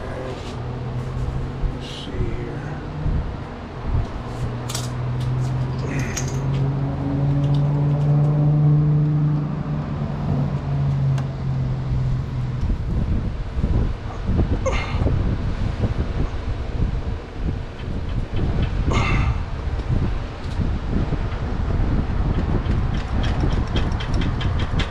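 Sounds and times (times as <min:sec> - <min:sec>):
low mechanical hum: 0:00.0 - 0:24.9.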